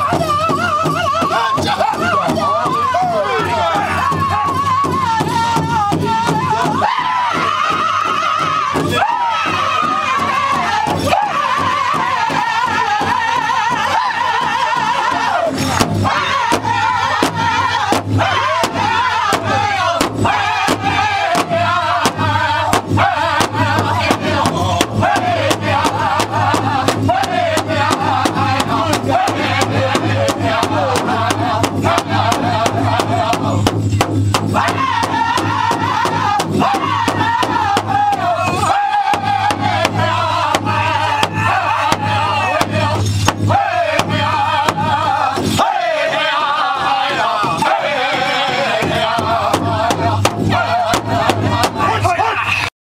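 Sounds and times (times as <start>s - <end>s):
big drum steady beat: 0.0s - 52.4s
voices singing in unison: 0.0s - 52.7s.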